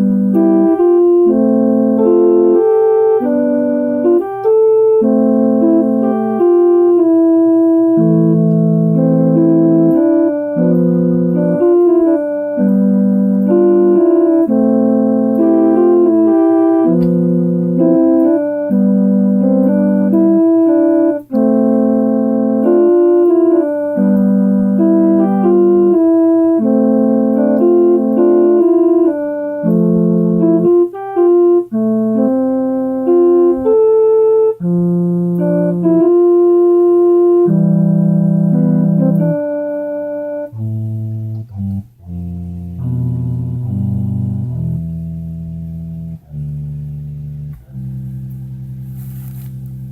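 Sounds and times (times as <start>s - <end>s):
electronic keyboard playing chords: 0.0s - 49.9s.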